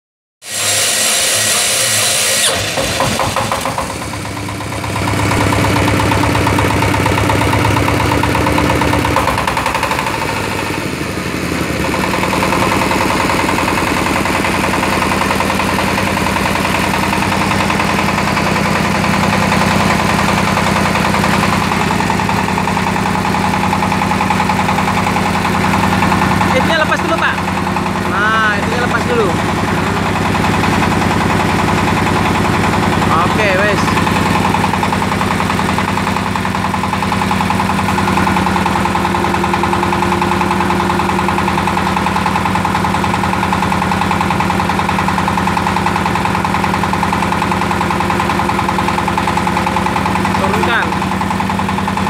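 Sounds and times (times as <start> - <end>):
diesel engine running: 0.4 - 52.0
electric starter whining: 0.4 - 52.0.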